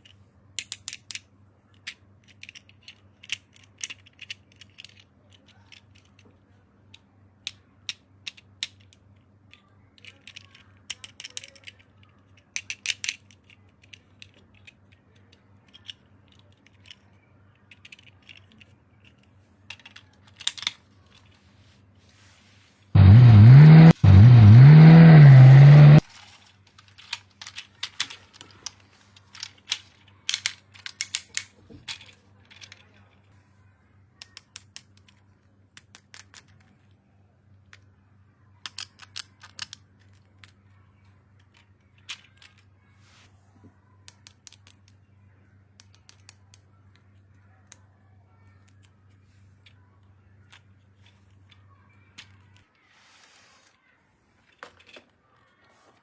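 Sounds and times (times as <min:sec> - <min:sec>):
plastic toy parts clicking: 0:00.0 - 0:06.3, 0:06.9 - 0:21.4, 0:26.0 - 0:33.3, 0:34.2 - 0:37.0, 0:38.6 - 0:42.7, 0:43.8 - 0:52.8, 0:53.8 - 0:56.0.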